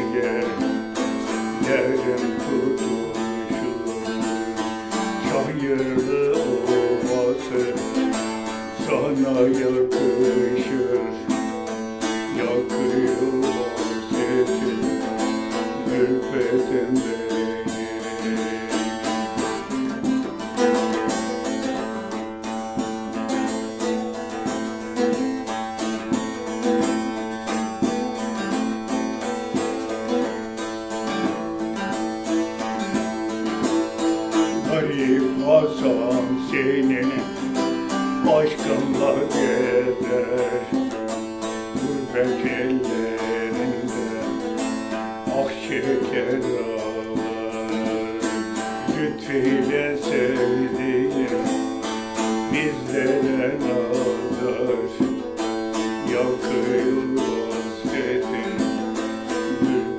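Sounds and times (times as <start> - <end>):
saz strummed melody: 0.0 - 59.9.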